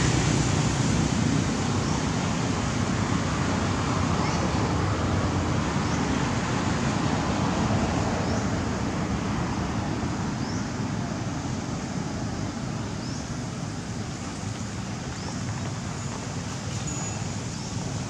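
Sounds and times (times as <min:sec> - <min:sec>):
rushing outdoor noise: 0:00.0 - 0:18.0.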